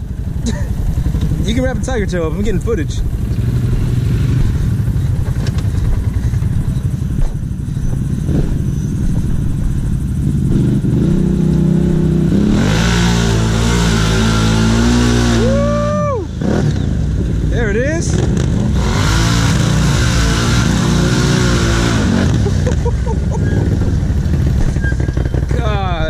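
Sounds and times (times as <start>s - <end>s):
atv engines revving: 0.0s - 26.0s.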